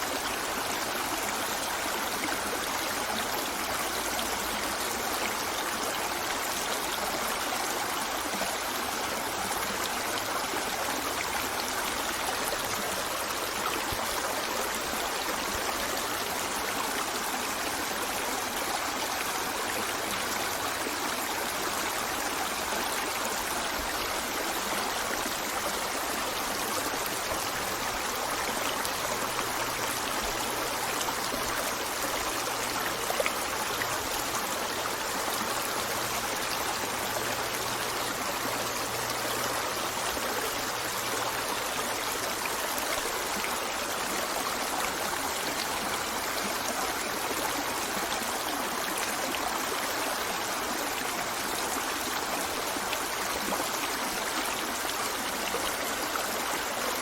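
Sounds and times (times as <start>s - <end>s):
river running over stones: 0.0s - 57.0s.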